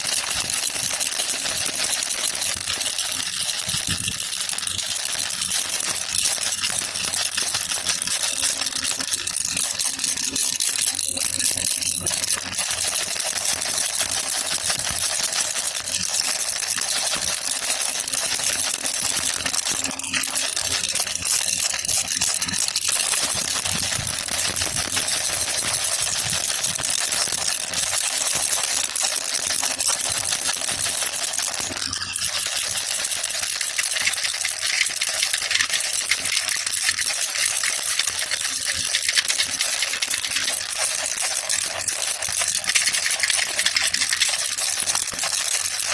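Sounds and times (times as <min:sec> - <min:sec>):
baby rattle shaken: 0:00.0 - 0:45.9.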